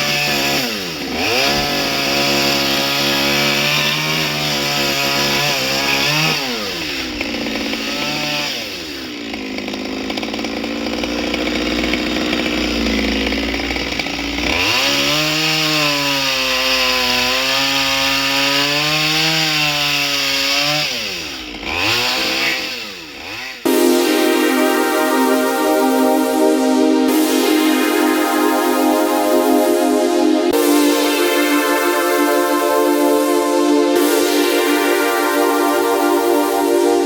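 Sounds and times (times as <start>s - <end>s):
chainsaw cutting wood: 0.0s - 29.7s.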